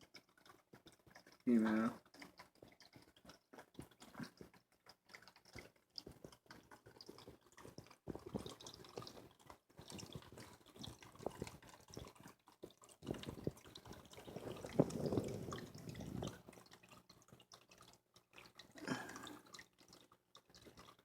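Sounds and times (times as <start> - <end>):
small waterfall trickling and dripping: 0.0 - 21.0.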